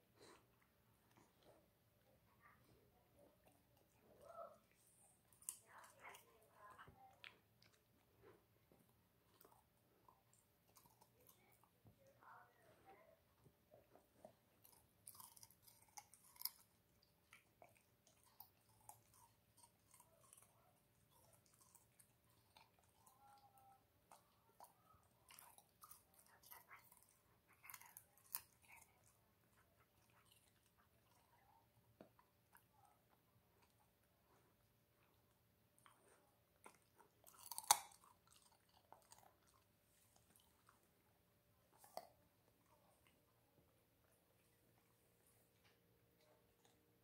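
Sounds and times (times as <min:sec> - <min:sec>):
puppy crunching carrot: 0:03.2 - 0:11.8, 0:13.6 - 0:40.9, 0:41.6 - 0:45.0.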